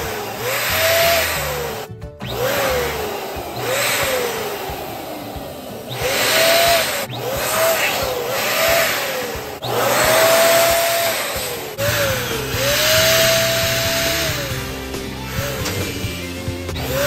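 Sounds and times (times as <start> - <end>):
electric balloon pump blowing air: 0.0 - 17.0.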